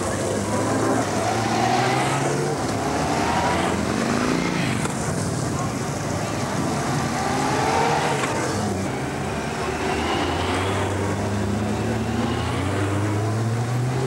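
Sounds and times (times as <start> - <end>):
motorcycles riding past: 0.0 - 14.0.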